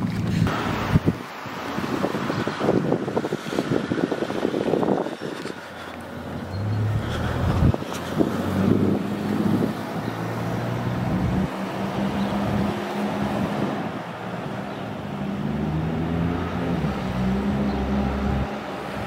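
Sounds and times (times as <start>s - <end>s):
rushing background noise: 0.0s - 19.0s.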